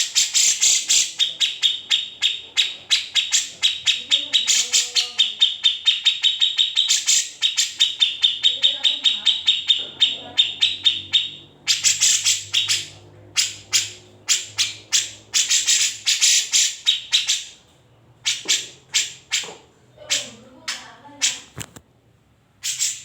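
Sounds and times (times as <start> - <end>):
bird harsh rasping calls: 0.0 - 17.6, 18.2 - 21.6, 22.6 - 23.0.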